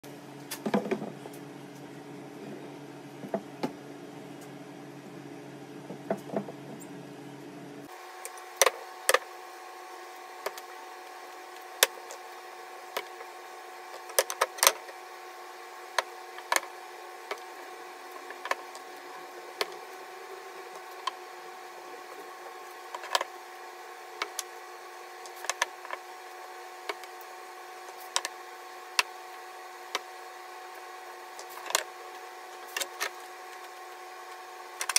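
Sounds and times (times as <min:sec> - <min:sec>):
steady machine hum: 0:00.0 - 0:34.9.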